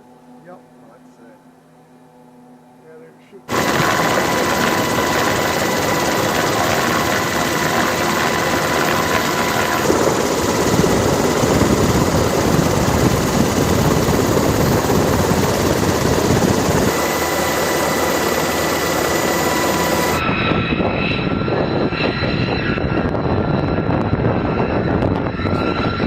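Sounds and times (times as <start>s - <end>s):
faint high whine: 0.0s - 26.0s
jet engines running: 3.4s - 26.0s.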